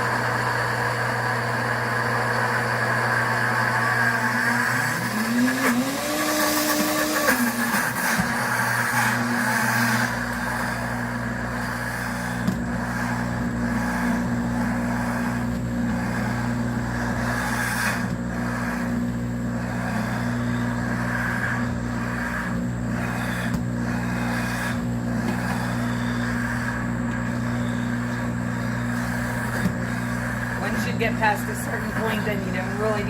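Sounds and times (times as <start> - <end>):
blender motor grinding peanuts: 0.0 - 33.0.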